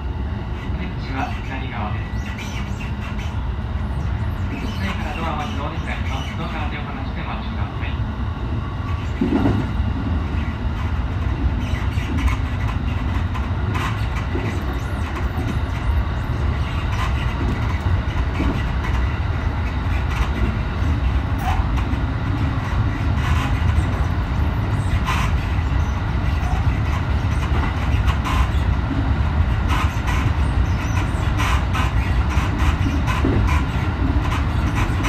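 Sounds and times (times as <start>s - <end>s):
train rumble from inside: 0.0s - 35.0s.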